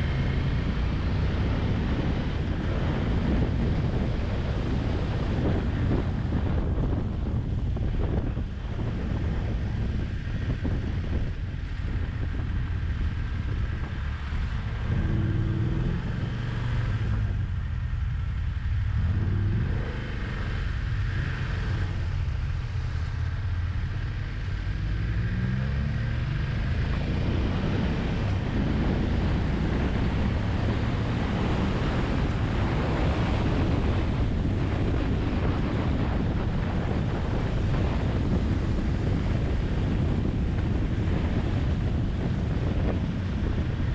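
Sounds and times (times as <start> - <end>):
motorcycle engine accelerating: 0.0 - 43.9
wind noise on microphone: 0.0 - 43.9.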